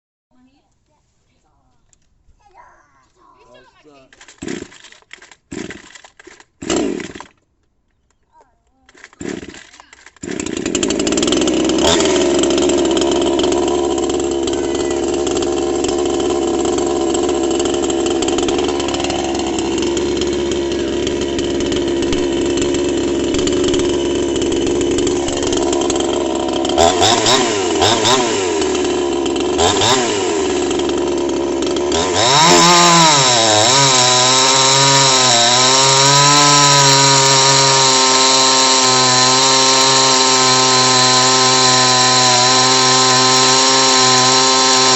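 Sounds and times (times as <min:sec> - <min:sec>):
chainsaw engine revving: 0:04.1 - 0:07.4, 0:08.8 - 0:44.9.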